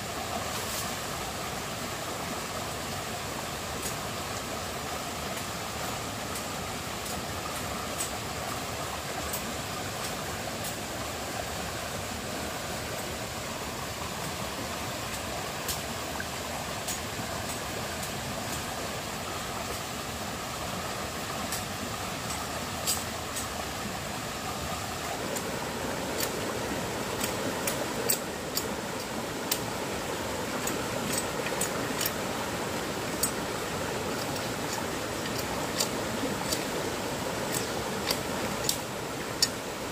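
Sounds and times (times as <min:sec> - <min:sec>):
rocky stream rushing: 0:00.0 - 0:39.9.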